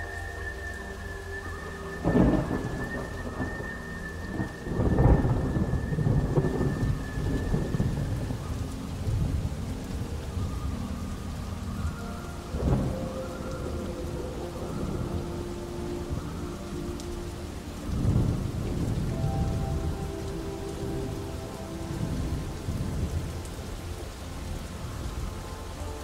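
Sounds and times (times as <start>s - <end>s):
steady rain: 0.0s - 26.0s
thunder claps rumbling: 1.9s - 26.0s.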